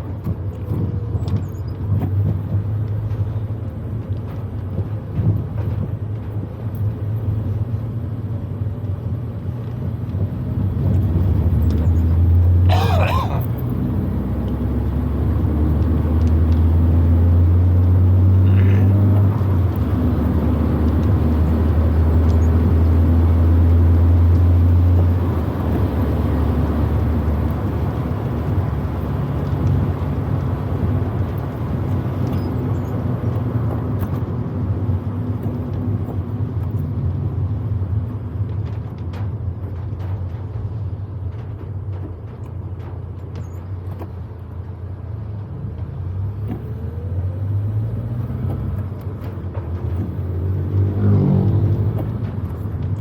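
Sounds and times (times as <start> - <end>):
car engine drone from inside: 0.0 - 53.0
tyre and road noise: 0.0 - 53.0.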